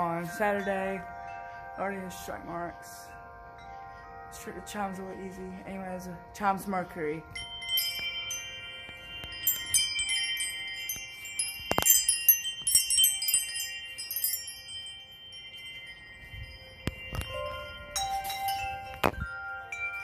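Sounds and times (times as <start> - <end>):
metal wind chimes ringing: 0.0 - 20.0.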